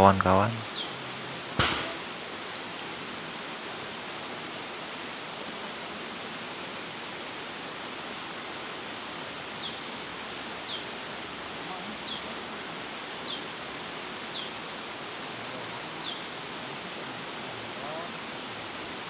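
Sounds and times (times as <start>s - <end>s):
forest stream rushing: 0.0s - 19.0s.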